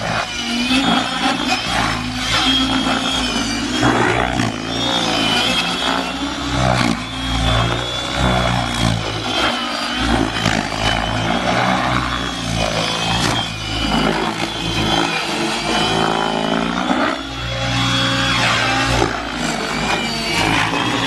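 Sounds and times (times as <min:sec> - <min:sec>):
helicopter rotor noise: 0:00.0 - 0:21.0
high motor whine: 0:00.0 - 0:21.0.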